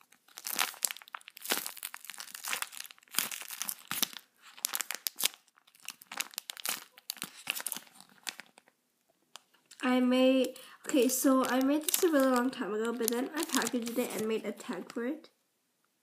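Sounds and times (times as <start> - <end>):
plastic bag crinkling: 0.0 - 15.1.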